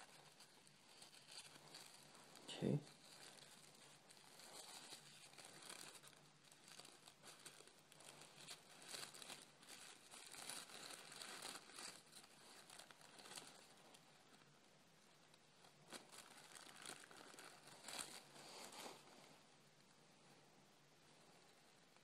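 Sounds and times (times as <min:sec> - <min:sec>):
tissue paper crinkling: 0:00.0 - 0:19.4.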